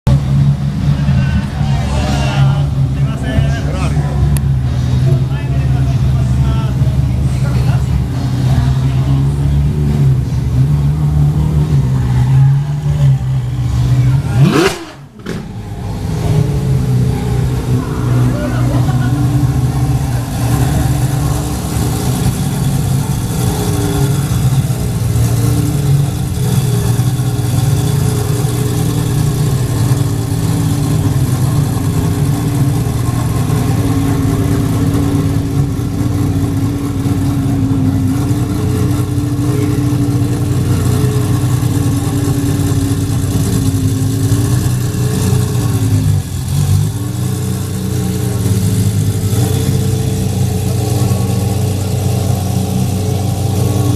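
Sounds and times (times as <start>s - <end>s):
sports car engine idling: 0.1s - 53.9s.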